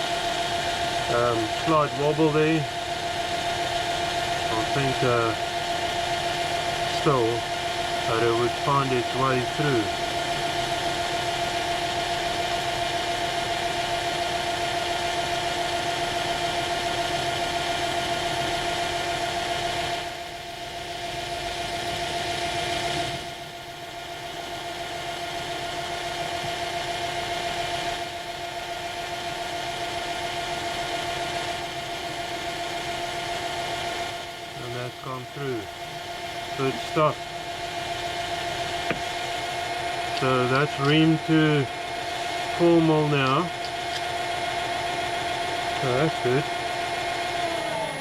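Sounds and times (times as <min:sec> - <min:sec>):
machine tool whining: 0:00.0 - 0:48.0.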